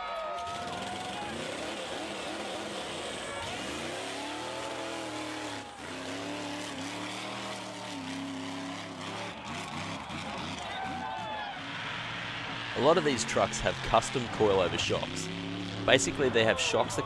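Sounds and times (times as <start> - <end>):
truck engine revving: 0.4 - 17.0.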